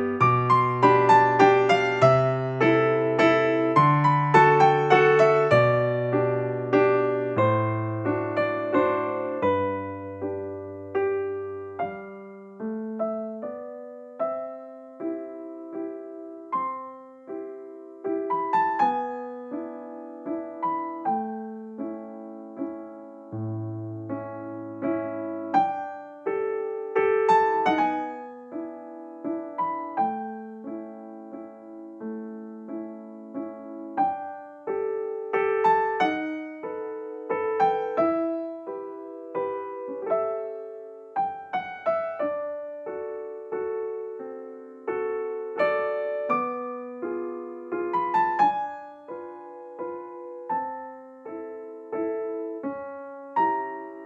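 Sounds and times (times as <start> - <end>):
gentle solo piano melody: 0.0 - 54.0.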